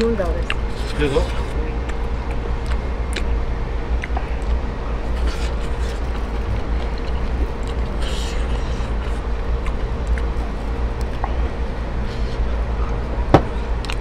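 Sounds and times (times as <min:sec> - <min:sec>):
eating clicks and smacks: 0:00.0 - 0:11.5, 0:12.8 - 0:14.0
faint steady hum: 0:00.0 - 0:14.0.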